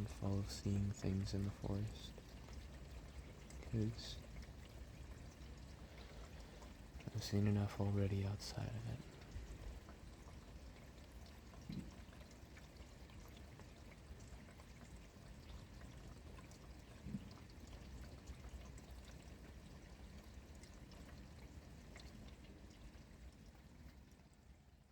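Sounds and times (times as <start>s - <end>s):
faint drip ticks: 0.0s - 24.9s
steady rain hiss: 0.0s - 24.9s.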